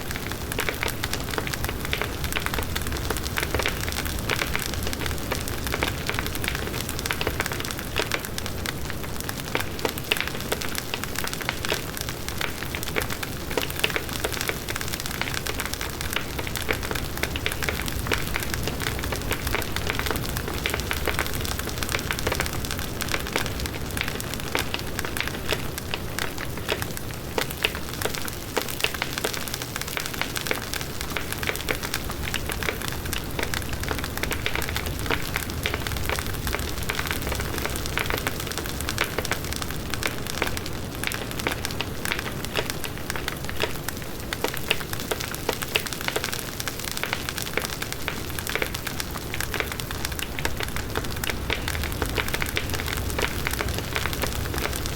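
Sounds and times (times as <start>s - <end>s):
burning wood crackling: 0.0s - 54.9s.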